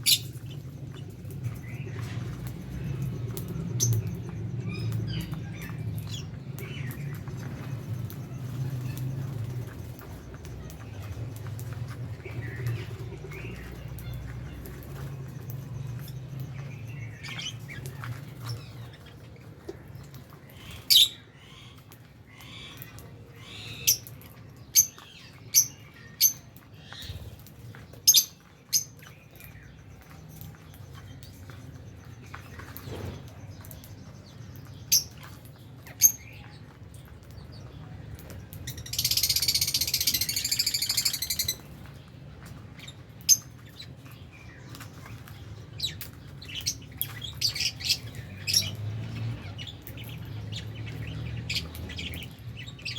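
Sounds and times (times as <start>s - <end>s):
lovebirds chirping: 0.0s - 52.9s.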